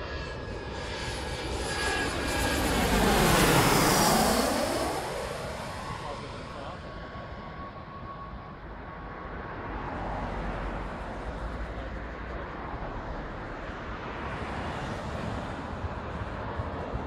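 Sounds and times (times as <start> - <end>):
jet engine whine: 0.0 - 17.0.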